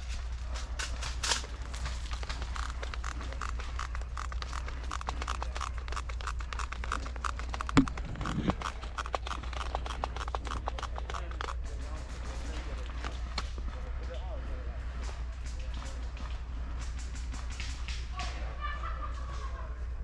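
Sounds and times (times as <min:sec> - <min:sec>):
rustling on microphone: 0:00.0 - 0:18.2
steady low rumble: 0:00.0 - 0:20.0.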